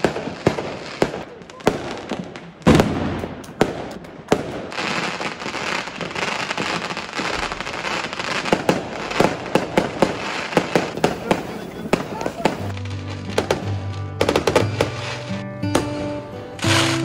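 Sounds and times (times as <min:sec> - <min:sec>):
fireworks bangs and pops: 0:00.0 - 0:17.0
fireworks hissing: 0:00.0 - 0:17.0.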